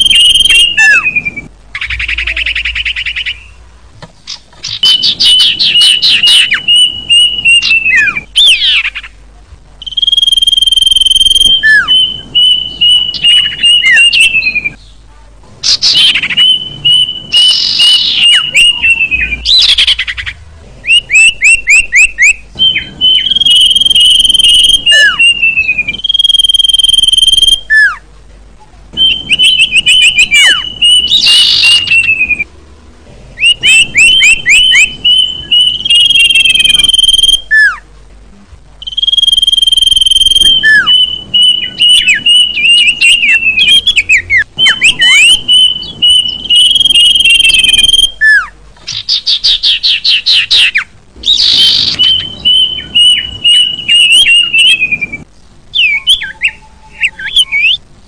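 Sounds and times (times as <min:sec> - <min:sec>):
birds singing with high whistles: 0:00.0 - 0:03.6, 0:04.2 - 0:09.2, 0:09.8 - 0:28.1, 0:29.0 - 0:32.6, 0:33.4 - 0:37.9, 0:38.8 - 0:57.8.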